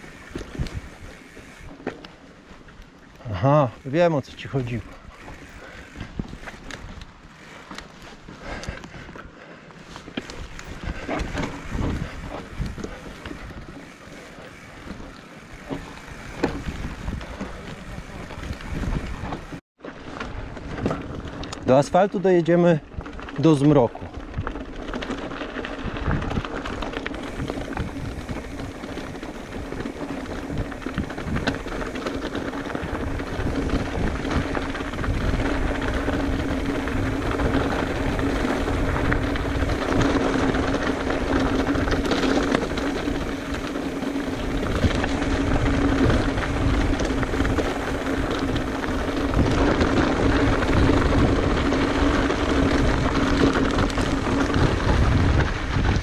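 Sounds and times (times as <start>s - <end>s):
bike rattling over rocks: 0.0s - 56.0s.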